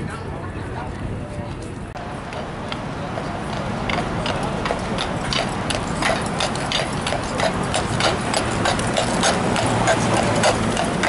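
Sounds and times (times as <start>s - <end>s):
horse hooves clip-clopping on pavement: 0.8s - 11.0s.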